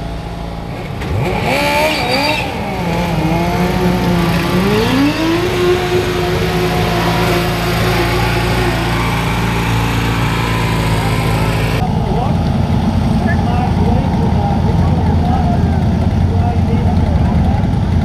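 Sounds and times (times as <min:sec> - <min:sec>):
tractor engine under load: 0:00.0 - 0:18.0.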